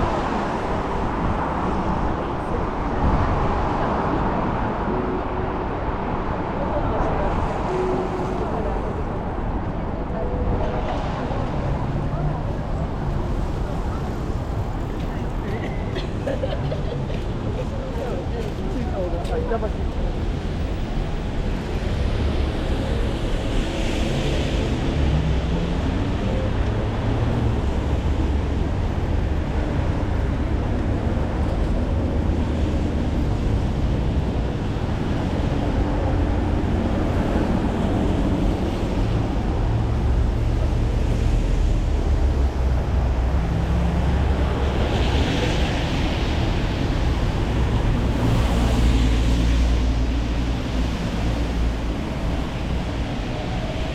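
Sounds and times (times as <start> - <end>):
vehicles on wet road: 0.0 - 53.9.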